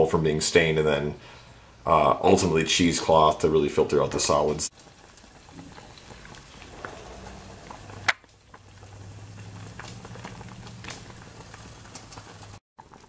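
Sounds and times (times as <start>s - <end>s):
liquid boiling in a saucepan: 1.5s - 13.0s.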